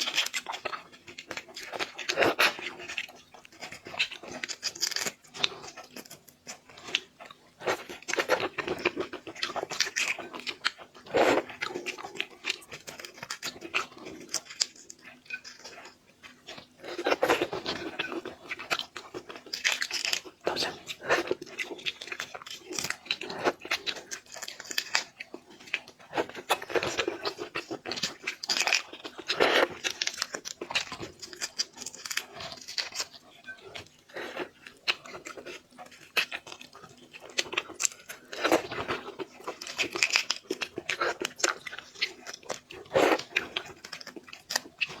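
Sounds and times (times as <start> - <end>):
chewing and crunching: 0.0 - 45.0.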